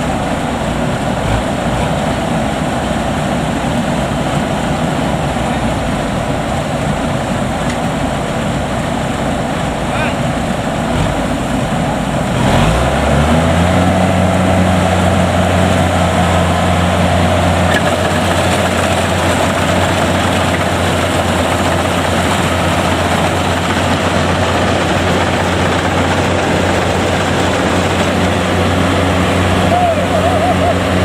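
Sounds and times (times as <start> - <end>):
combine harvester diesel engine: 0.0 - 31.0.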